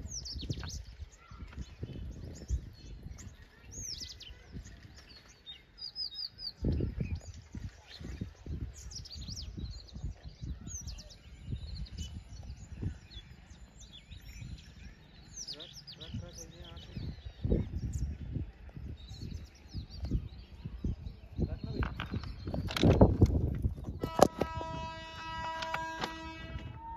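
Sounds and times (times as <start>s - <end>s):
small birds chirping: 0.0s - 24.1s
wind buffeting microphone: 0.0s - 26.9s.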